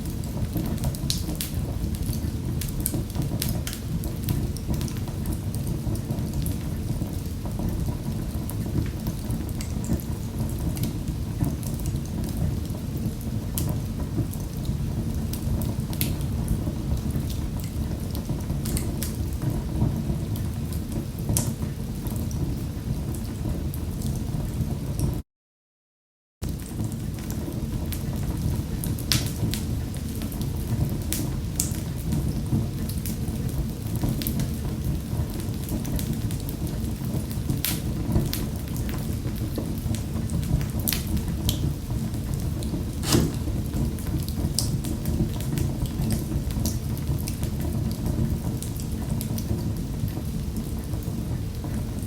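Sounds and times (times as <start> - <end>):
wood fire crackling in fireplace: 0.0 - 25.2, 26.4 - 52.0.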